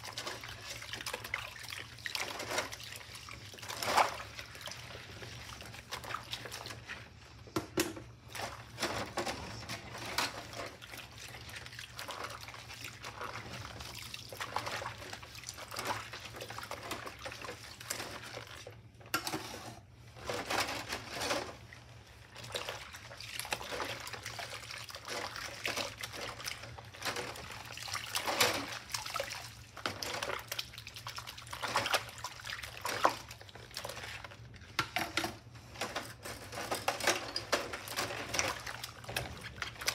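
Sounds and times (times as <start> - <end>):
dishwater sloshing in a sink: 0.0 - 39.9
sponge scrubbing dishes: 0.0 - 39.9.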